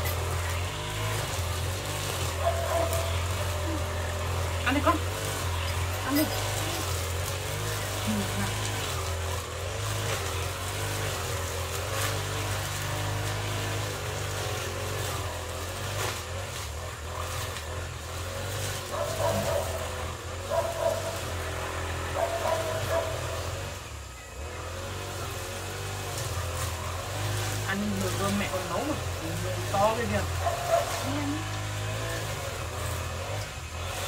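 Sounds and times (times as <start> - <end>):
low engine drone: 0.0 - 34.0.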